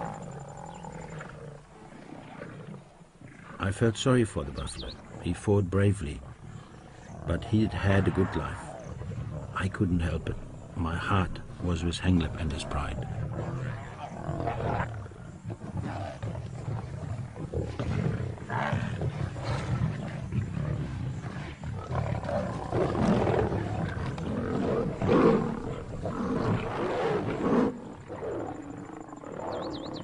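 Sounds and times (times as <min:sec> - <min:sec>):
lions roaring and growling: 0:00.0 - 0:03.8, 0:06.2 - 0:30.0.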